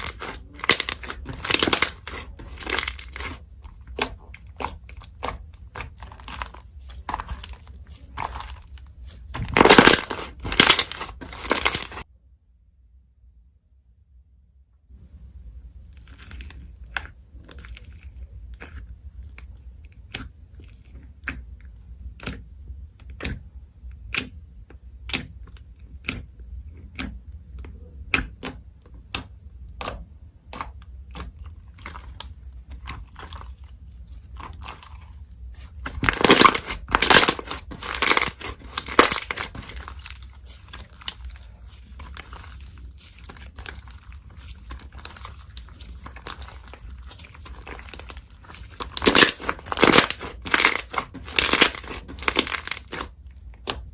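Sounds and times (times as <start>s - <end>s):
slime crackling and squelching: 0.0s - 12.1s, 15.8s - 22.5s, 23.1s - 53.9s.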